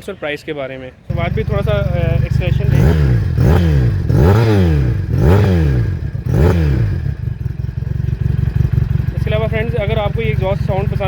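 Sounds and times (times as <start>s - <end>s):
motorcycle engine idling: 1.1s - 11.0s
motorcycle engine revving: 1.1s - 11.0s.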